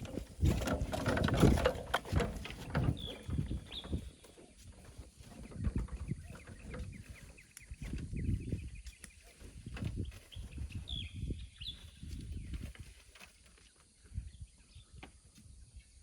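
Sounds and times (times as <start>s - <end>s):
low thuds and scrapes: 0.0s - 13.3s
small birds chirping: 0.0s - 16.0s.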